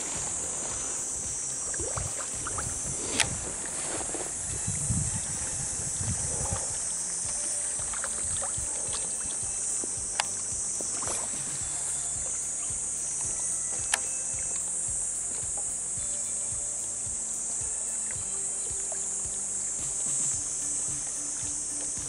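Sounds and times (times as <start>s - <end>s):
cicada chorus drone: 0.0s - 22.0s
sharp ticks: 0.2s - 22.0s.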